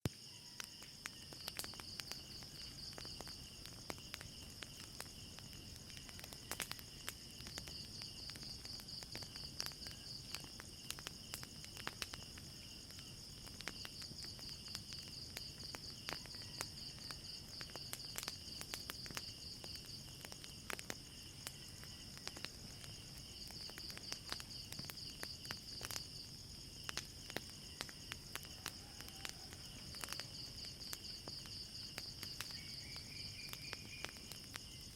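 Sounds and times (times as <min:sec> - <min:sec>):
crickets trilling: 0:00.0 - 0:34.9
wood fire crackling: 0:00.0 - 0:34.9.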